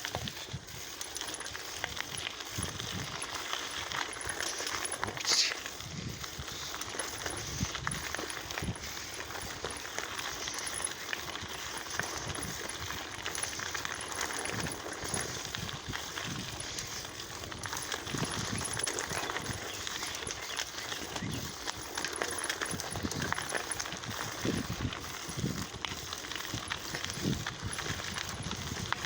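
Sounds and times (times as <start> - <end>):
bicycle tyres rolling on pavement: 0.0 - 29.0
metallic clicking and rattling: 0.0 - 29.0.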